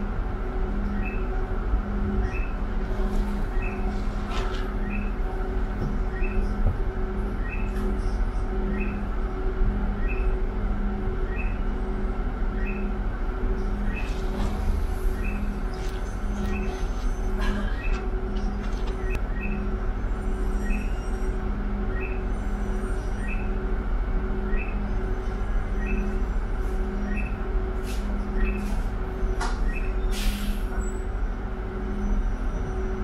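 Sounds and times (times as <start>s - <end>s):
bus engine and road noise: 0.0s - 33.0s.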